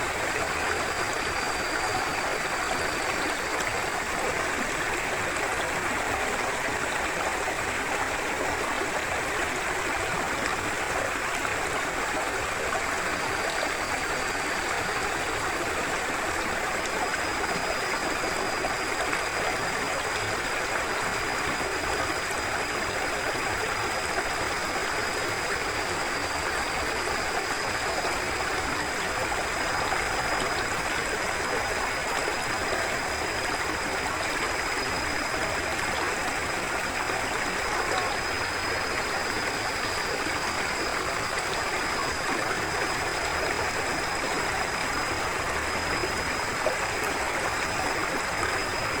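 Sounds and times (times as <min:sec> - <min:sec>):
river flowing: 0:00.0 - 0:49.0.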